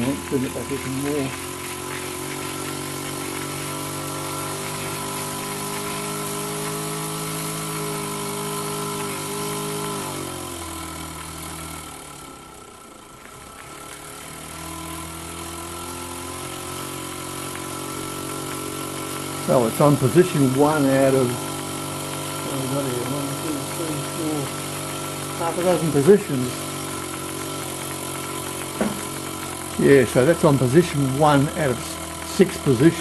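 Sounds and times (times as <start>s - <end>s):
model steam engine humming: 0.0s - 33.0s.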